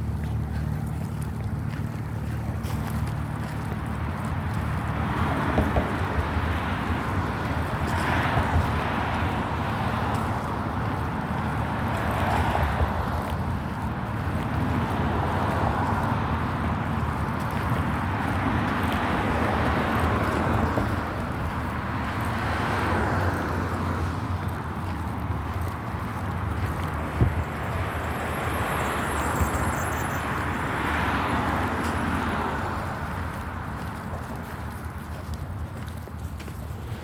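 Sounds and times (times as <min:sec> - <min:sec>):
cars passing: 0:00.0 - 0:37.0
low road rumble: 0:00.0 - 0:37.0.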